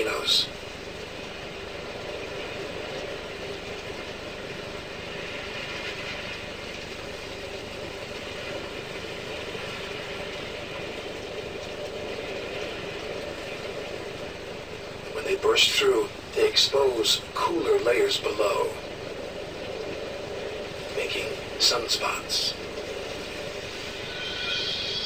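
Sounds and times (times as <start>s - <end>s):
steady rushing drone: 0.0s - 25.0s.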